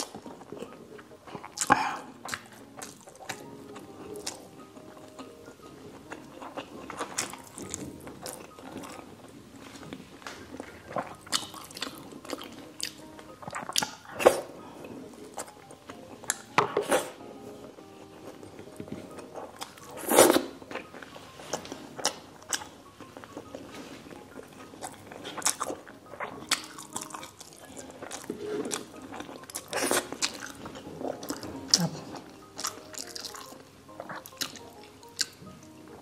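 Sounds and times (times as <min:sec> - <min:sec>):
wet chewing and lip smacking: 0:00.0 - 0:17.1, 0:18.0 - 0:36.0.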